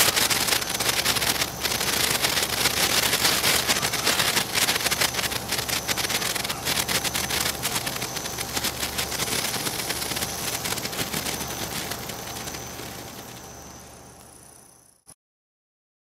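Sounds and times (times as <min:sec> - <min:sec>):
sparkler crackling and fizzing: 0:00.0 - 0:14.9.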